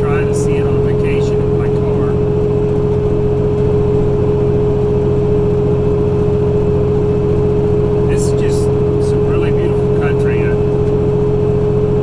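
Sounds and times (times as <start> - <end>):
constant hum: 0.0 - 12.0
truck engine drone: 0.0 - 12.0.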